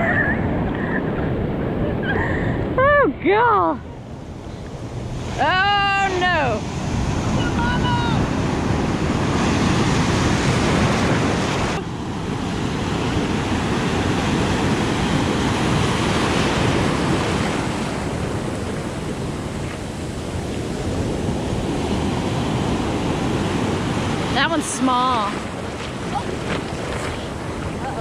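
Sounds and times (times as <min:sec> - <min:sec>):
foamy water rushing: 0:00.0 - 0:28.0
ocean surf breaking: 0:00.0 - 0:28.0
wind buffeting microphone: 0:00.0 - 0:28.0.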